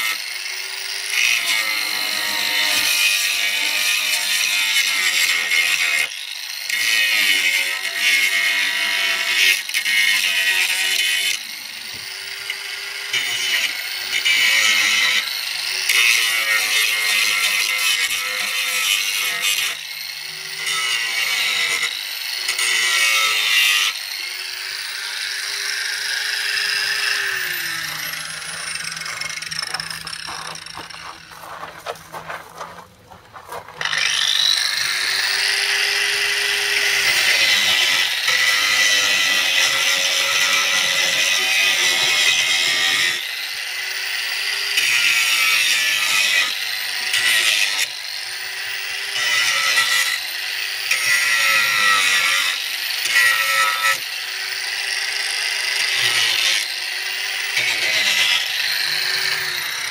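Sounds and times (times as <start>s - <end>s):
angle grinder grinding: 0.0s - 59.9s.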